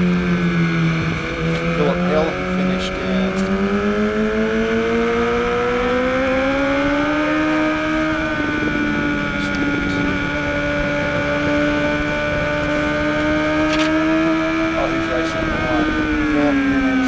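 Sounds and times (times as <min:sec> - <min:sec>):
motorcycle engine accelerating hard: 0:00.0 - 0:17.0.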